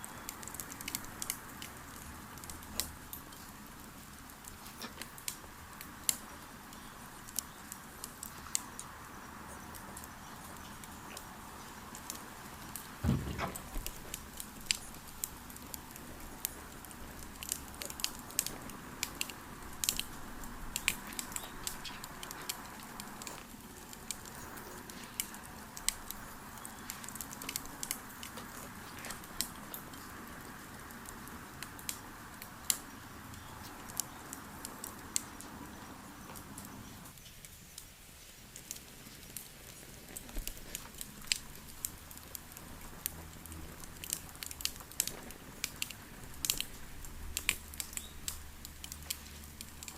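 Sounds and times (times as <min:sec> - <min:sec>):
campfire crackling: 0:00.0 - 0:49.9.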